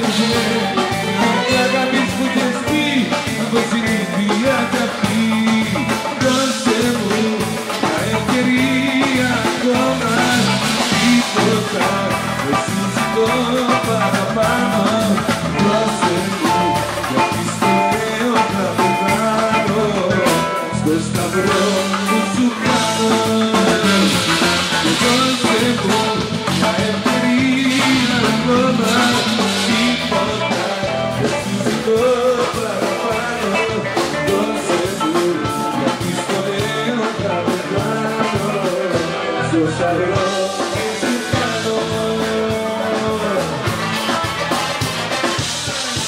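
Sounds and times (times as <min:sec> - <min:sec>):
live band playing: 0:00.0 - 0:46.0
male singer on microphone: 0:00.0 - 0:46.0.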